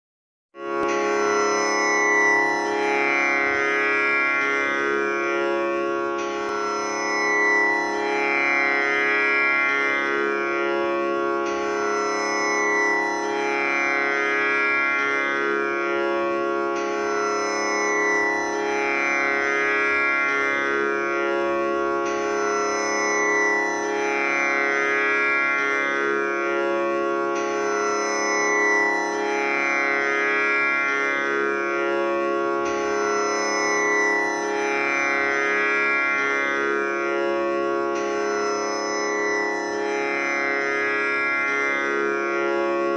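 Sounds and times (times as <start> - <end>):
tanpura drone: 0.6 - 42.9.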